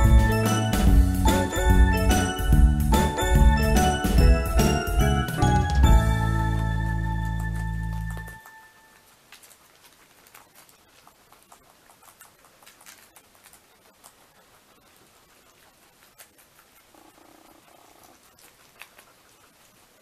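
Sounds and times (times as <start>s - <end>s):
guinea pigs chewing: 0.0s - 20.0s.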